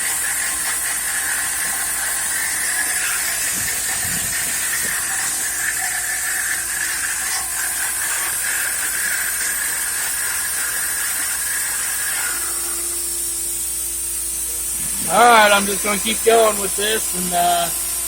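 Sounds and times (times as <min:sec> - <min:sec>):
high squeal of cutting: 0:00.0 - 0:17.1
router spindle hissing: 0:00.0 - 0:18.0.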